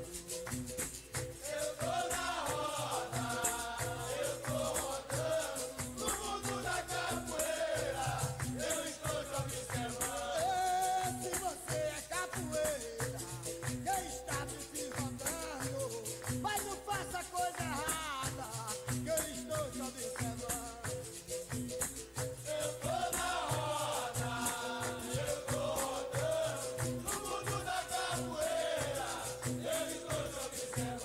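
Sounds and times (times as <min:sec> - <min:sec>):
berimbau rhythm: 0:00.0 - 0:31.0
shaker rattle: 0:00.0 - 0:31.0
voices singing: 0:01.4 - 0:20.9, 0:22.4 - 0:31.0.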